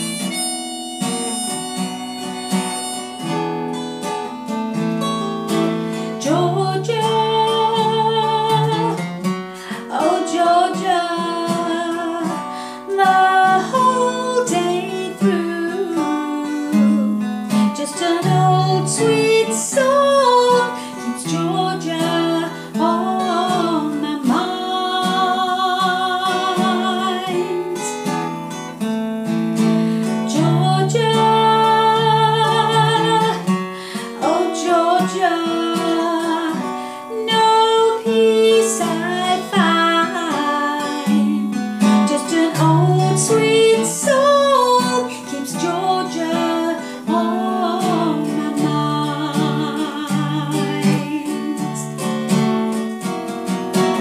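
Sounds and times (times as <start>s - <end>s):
strummed acoustic guitar: 0.0s - 54.0s
woman singing slow song: 5.9s - 28.3s, 30.0s - 52.6s.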